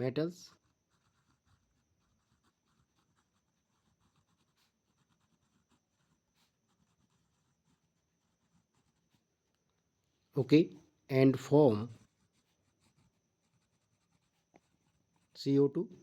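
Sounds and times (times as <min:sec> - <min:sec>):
pen scratching while writing: 0:00.0 - 0:09.8, 0:11.7 - 0:15.4.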